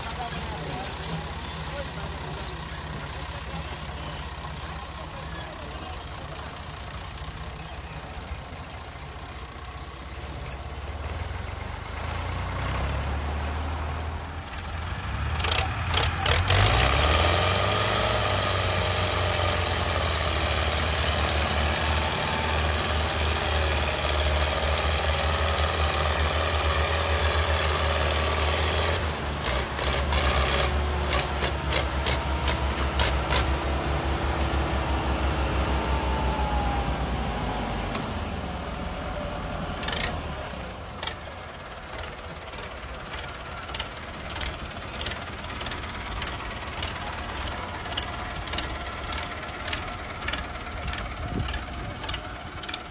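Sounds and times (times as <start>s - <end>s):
tractor diesel engines running: 0.0s - 52.9s.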